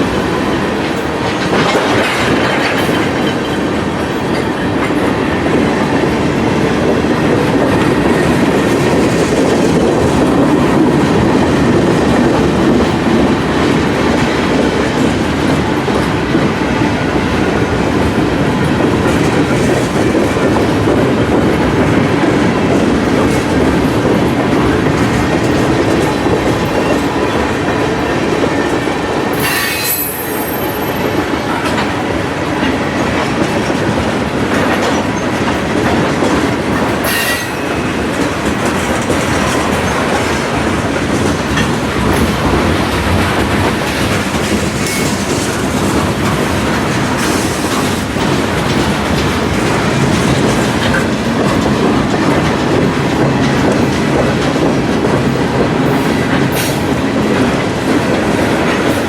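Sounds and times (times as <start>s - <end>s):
train rumbling past: 0.0s - 59.0s
train wheel clatter: 0.0s - 59.0s.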